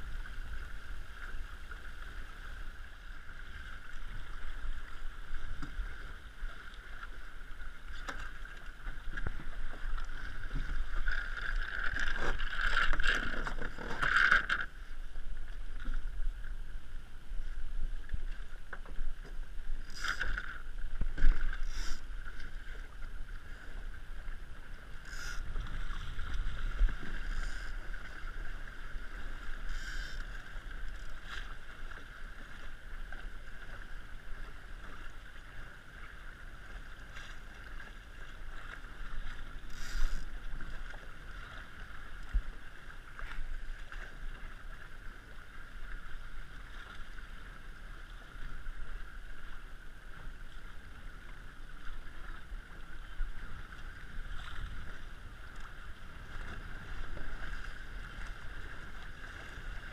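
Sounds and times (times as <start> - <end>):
water rushing along hull: 0.0 - 59.9.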